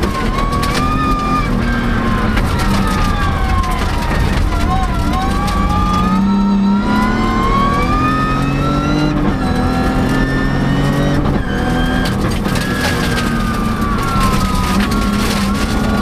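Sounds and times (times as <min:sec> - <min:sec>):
gravel and tyre noise: 0:00.0 - 0:16.0
rally car engine revving: 0:00.0 - 0:16.0.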